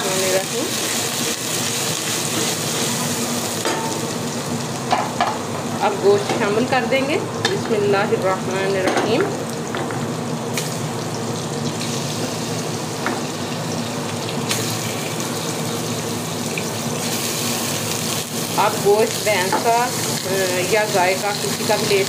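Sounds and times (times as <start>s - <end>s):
meat sizzling in hot fat: 0.0s - 22.0s.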